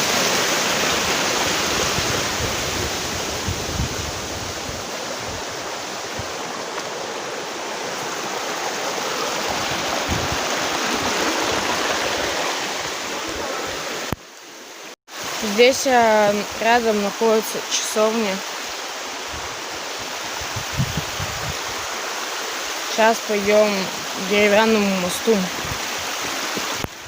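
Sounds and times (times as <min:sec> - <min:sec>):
water rushing in waterfall: 0:00.0 - 0:27.0.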